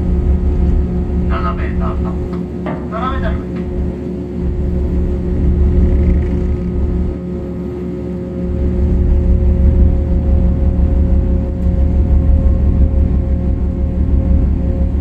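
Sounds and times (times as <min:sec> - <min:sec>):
ship engines rumbling: 0:00.0 - 0:15.0.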